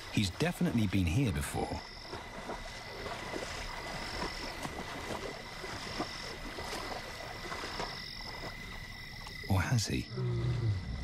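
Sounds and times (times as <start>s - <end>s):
frogs croaking and clicking: 0.0s - 11.0s
higher frog calls: 1.3s - 11.0s.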